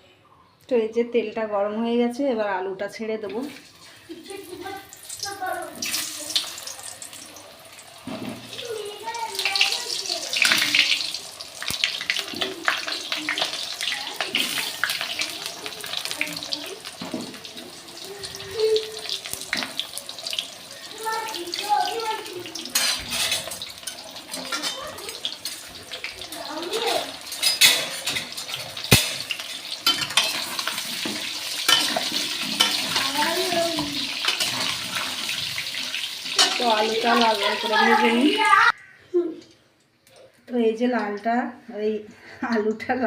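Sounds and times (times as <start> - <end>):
potatoes frying in hot oil: 3.3 - 38.7.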